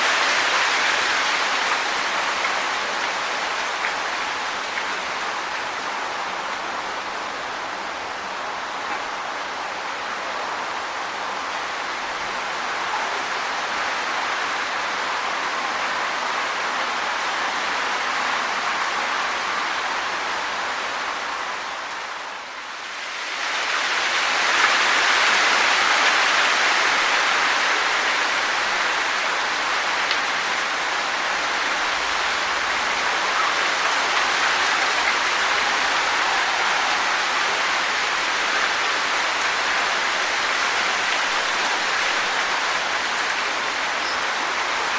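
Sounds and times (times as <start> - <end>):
wind rustling leaves: 0.0 - 44.9.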